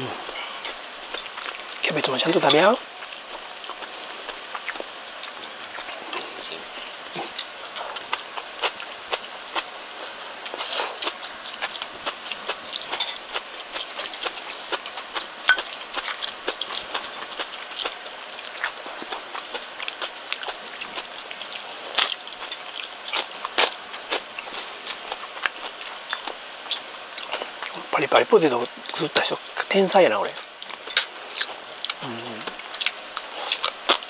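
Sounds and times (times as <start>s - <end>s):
person chewing crunchy food: 3.0s - 6.4s, 7.1s - 27.8s, 30.4s - 34.0s.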